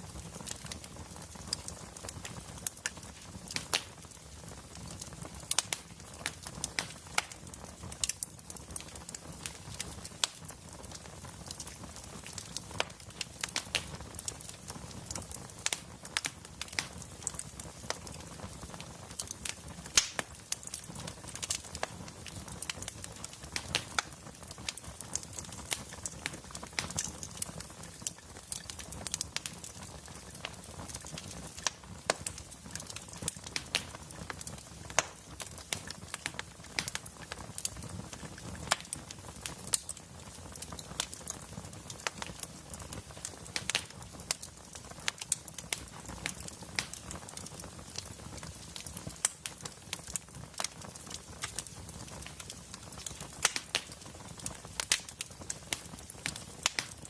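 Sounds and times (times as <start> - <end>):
burning logs crackling: 0.0 - 57.0.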